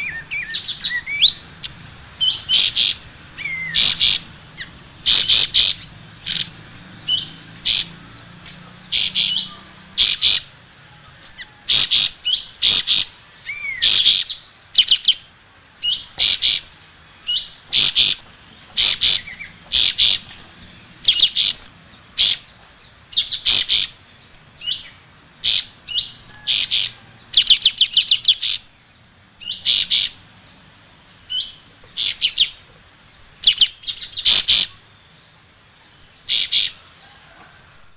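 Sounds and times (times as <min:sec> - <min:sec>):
bird chirping: 0:00.0 - 0:37.9.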